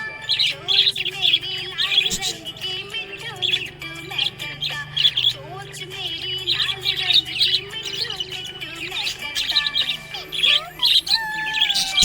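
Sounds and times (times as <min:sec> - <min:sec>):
budgie chattering: 0:00.0 - 0:12.0.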